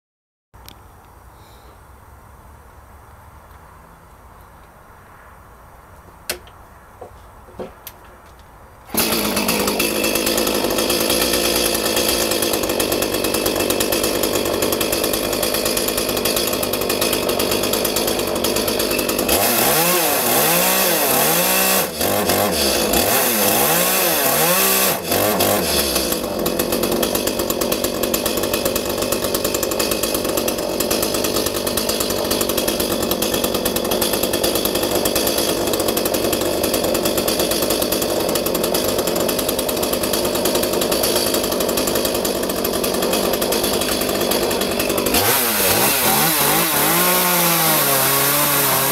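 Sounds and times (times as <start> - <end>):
chainsaw engine idling and revving: 8.8 - 48.9.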